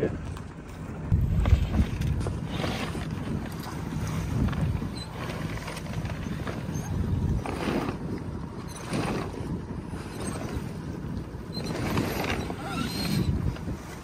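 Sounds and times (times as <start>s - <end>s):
wind noise on microphone: 0.0s - 14.0s
sail cloth rustling and flapping: 0.7s - 14.0s.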